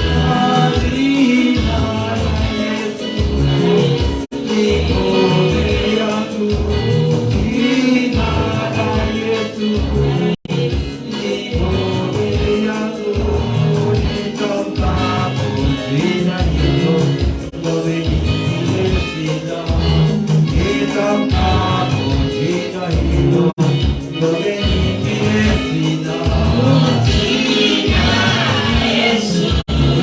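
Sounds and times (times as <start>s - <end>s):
band with steady beat: 0.0s - 30.0s
gospel singing: 0.0s - 30.0s.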